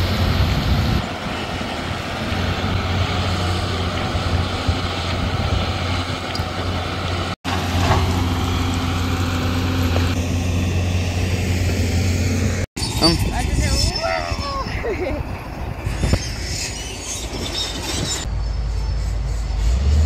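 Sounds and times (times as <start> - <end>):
excavator diesel engine droning: 0.0 - 13.2, 13.8 - 20.0.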